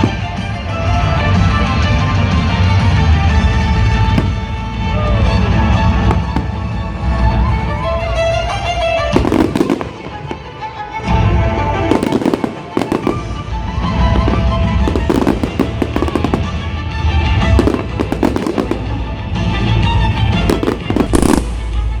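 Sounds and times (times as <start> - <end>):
fireworks bursting and crackling: 0.0 - 22.0
music playing: 0.0 - 22.0.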